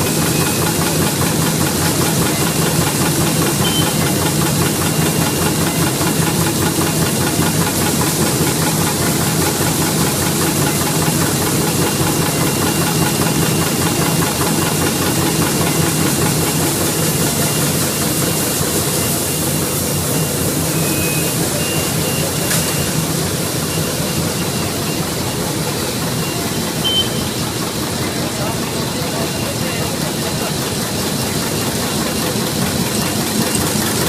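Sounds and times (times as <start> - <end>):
machine clattering: 0.0 - 20.5, 21.4 - 34.0.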